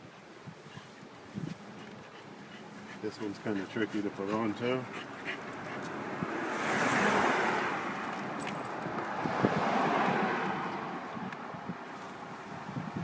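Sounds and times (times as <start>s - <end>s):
road traffic tyre noise: 0.2s - 13.0s.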